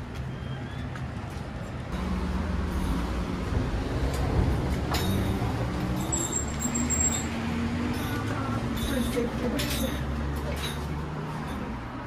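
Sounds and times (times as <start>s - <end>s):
large vehicle engine humming: 0.0s - 12.0s.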